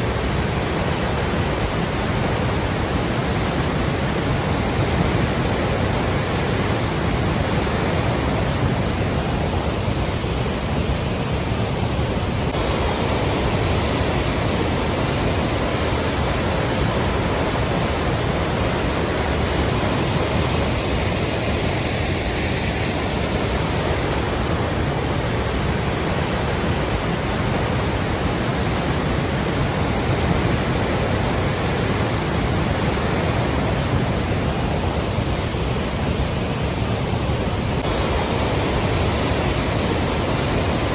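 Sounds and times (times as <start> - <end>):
water flowing: 0.0 - 40.9.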